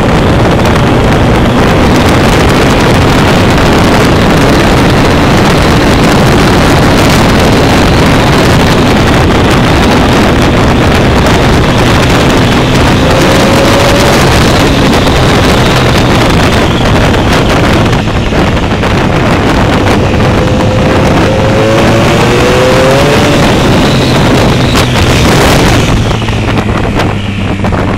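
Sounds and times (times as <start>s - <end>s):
motorcycle engine running: 0.0s - 27.9s
wind rush on microphone: 0.0s - 27.9s.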